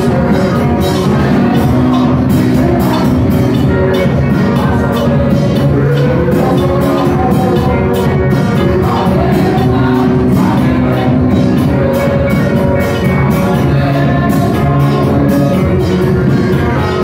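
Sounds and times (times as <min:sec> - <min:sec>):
drums keeping steady beat: 0:00.0 - 0:17.0
man singing into microphone: 0:00.0 - 0:17.0.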